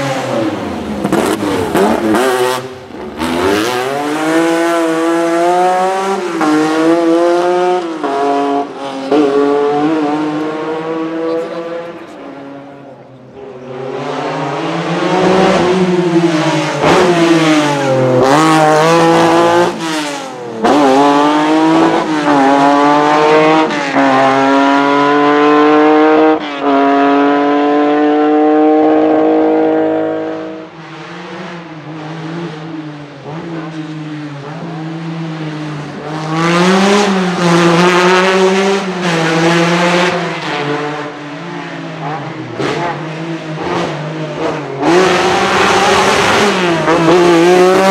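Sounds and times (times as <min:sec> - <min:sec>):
car engine revving hard: 0:00.0 - 0:12.7, 0:13.6 - 0:33.8, 0:35.4 - 0:47.9.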